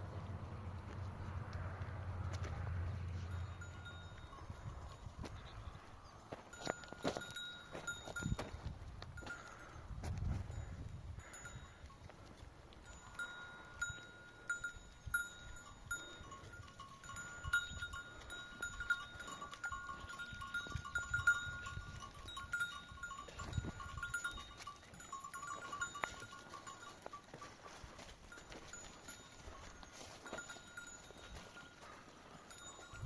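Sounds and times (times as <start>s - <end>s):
animal neck bells clinking: 0.2s - 33.0s.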